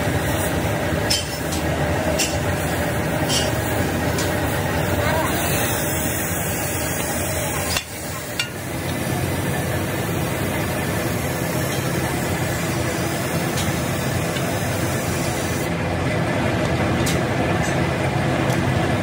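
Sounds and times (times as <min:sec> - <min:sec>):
machine drone with hum and hiss: 0:00.0 - 0:19.0.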